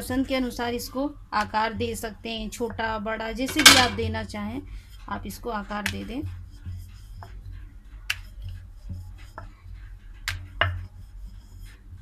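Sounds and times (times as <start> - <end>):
low steady hum: 0.0 - 12.0
rolling pin rolling dough: 0.0 - 12.0.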